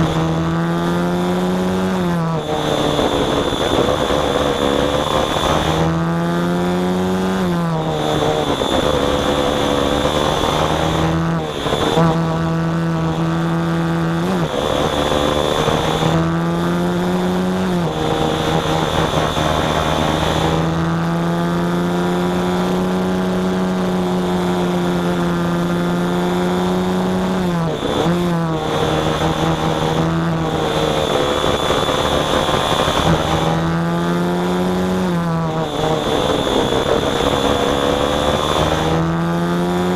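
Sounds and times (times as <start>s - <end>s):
small engine running: 0.0s - 39.9s
steady high whine: 0.0s - 39.9s.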